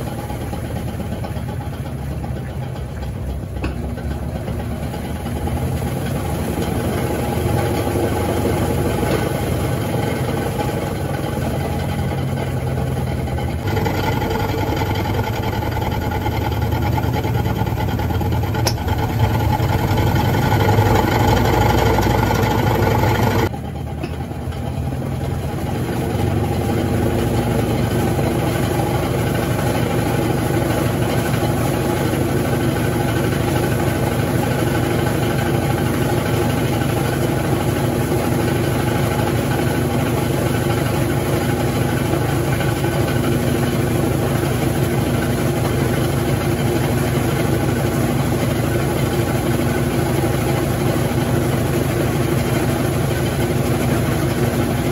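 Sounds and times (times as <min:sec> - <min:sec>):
washing machine hum: 0:00.0 - 0:54.9.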